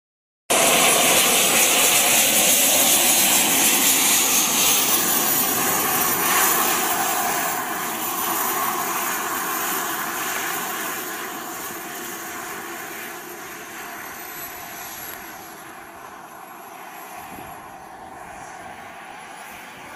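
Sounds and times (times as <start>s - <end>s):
model jet engines whining: 0.5s - 19.9s.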